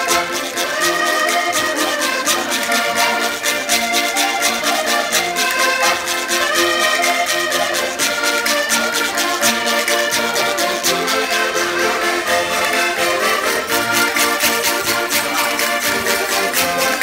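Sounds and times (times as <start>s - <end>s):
accordions playing folk tune: 0.0s - 17.0s
stringed instrument: 0.0s - 17.0s.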